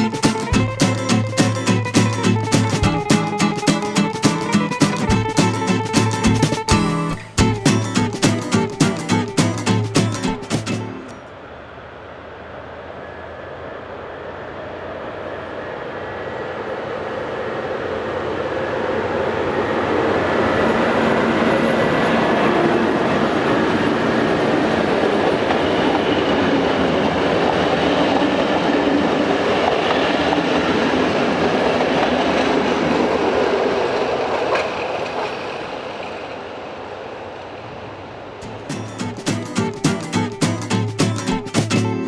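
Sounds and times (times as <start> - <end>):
diesel locomotive engine: 0.0 - 42.0.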